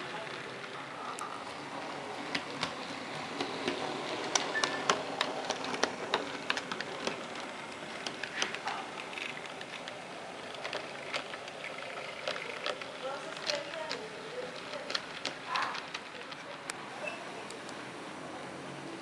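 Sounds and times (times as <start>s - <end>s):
model train rolling: 0.0s - 16.7s
wheels clicking on rails: 0.0s - 16.8s.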